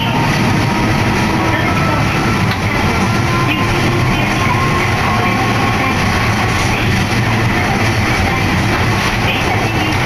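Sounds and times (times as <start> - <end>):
streetcar rumbling: 0.0 - 10.0.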